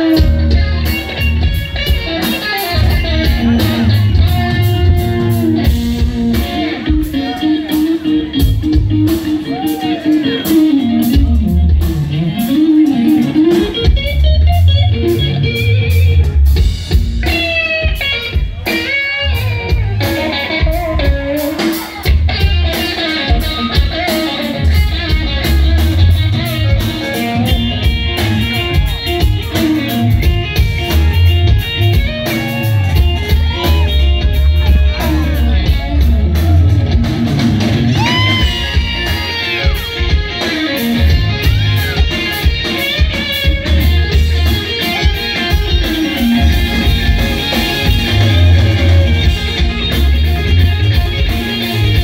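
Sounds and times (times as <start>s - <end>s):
bass guitar: 0.0s - 52.0s
drums: 0.0s - 52.0s
electric guitar lead: 0.0s - 52.0s.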